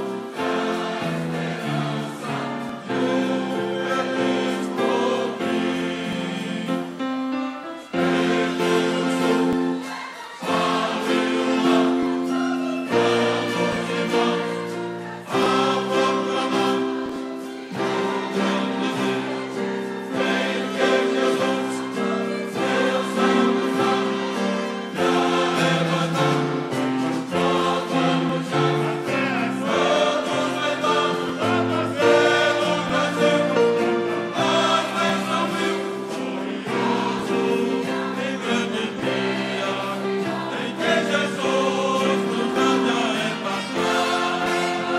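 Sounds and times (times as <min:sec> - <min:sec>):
choir singing gospel: 0:00.0 - 0:44.9.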